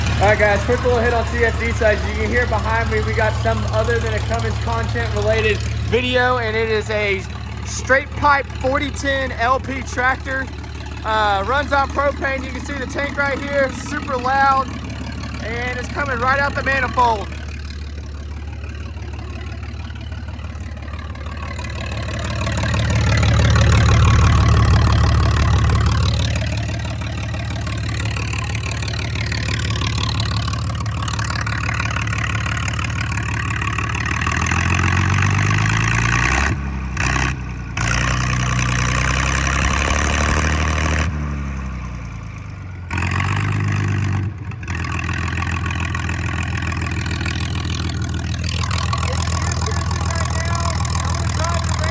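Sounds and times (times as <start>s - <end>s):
loud tractor engine revving: 0.0s - 51.9s.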